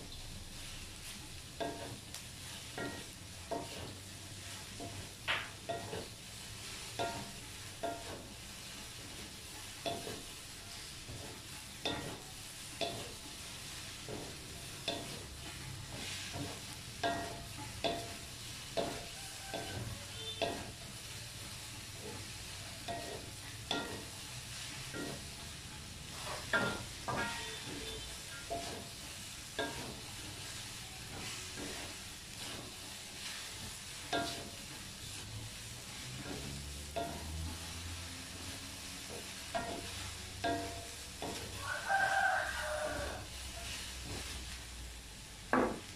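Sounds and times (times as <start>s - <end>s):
okra sizzling in pan: 0.0s - 45.9s
wooden spatula scraping pan: 0.6s - 20.8s, 21.9s - 44.7s.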